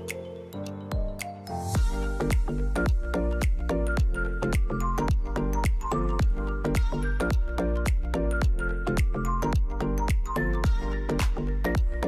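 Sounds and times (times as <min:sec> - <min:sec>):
kick drum beat: 0:01.8 - 0:12.0.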